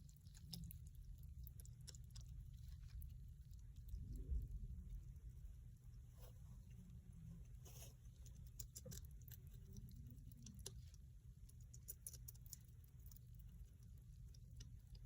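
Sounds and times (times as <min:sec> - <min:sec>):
hedgehog chewing crunches: 0:00.0 - 0:15.0.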